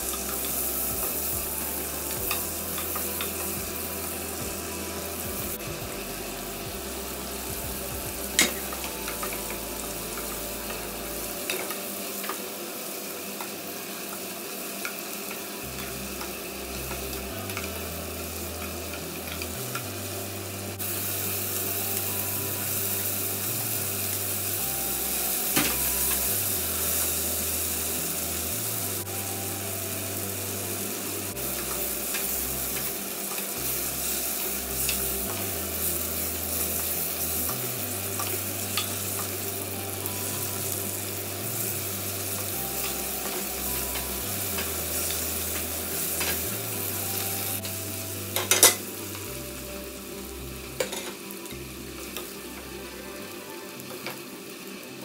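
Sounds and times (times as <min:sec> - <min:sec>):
vegetables sizzling in a pot: 0:00.0 - 0:55.0.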